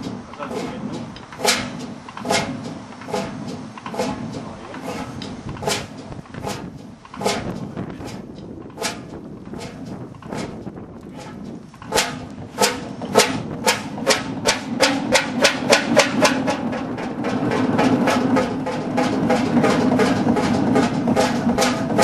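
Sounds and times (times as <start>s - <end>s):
engine knocking beats: 0.0s - 22.0s.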